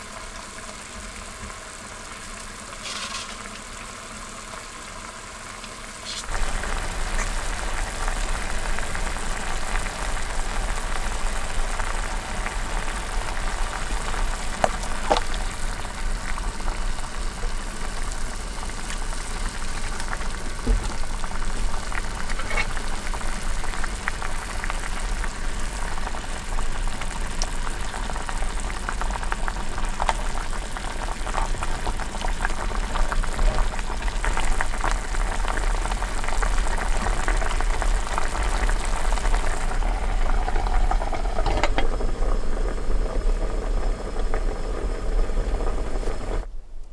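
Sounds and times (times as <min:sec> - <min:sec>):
broth bubbling in a pot: 0:00.0 - 0:46.9.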